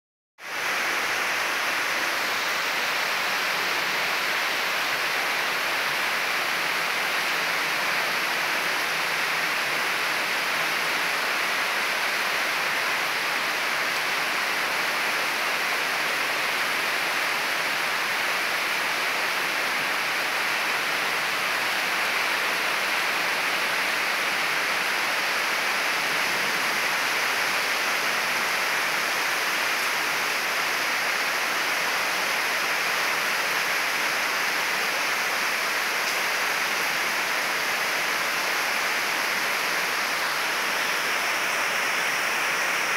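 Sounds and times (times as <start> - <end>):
heavy rain on trees: 0.4 - 42.9.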